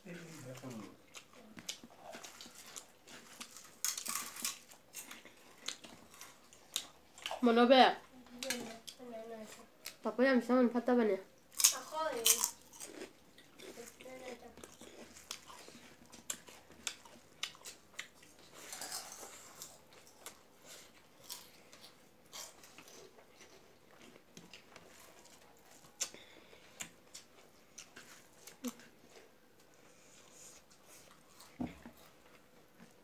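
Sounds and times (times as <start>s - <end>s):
chewing: 0.1s - 7.4s, 11.5s - 33.0s.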